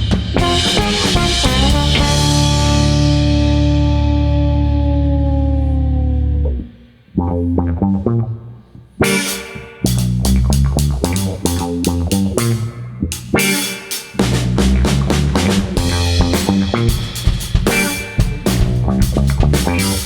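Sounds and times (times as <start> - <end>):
electric guitar riff: 0.0 - 20.0.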